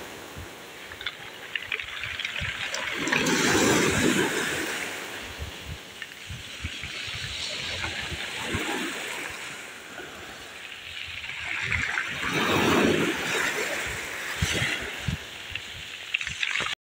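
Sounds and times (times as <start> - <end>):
sea waves washing onto shore: 0.0 - 16.8
wave breaking: 0.0 - 16.8.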